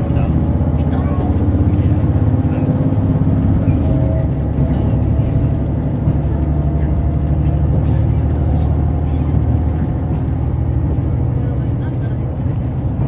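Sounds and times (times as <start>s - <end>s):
diesel railcar rumble: 0.0s - 13.0s.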